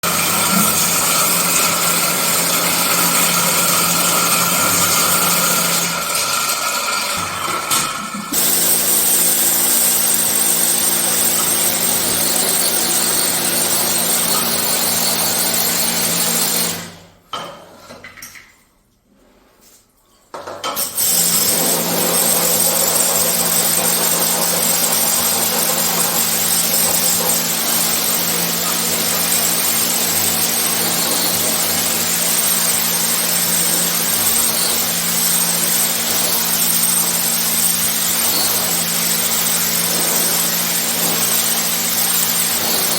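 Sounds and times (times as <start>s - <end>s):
water jet hissing: 0.0s - 16.4s, 21.1s - 42.9s
pressure washer motor hum: 0.0s - 16.9s, 20.8s - 42.9s.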